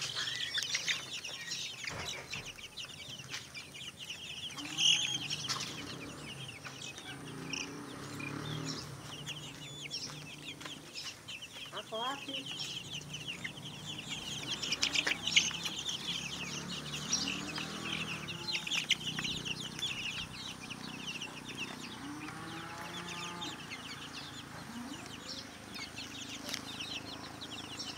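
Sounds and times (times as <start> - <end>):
chicks peeping: 0.0 - 27.9.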